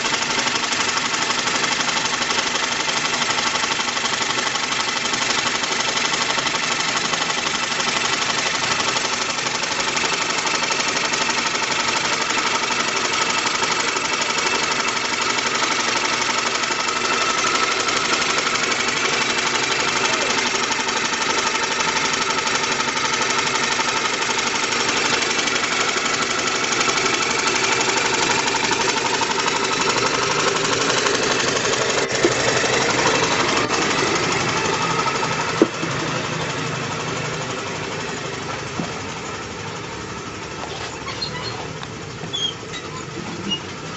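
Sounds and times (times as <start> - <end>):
steam engine running: 0.0 - 43.9.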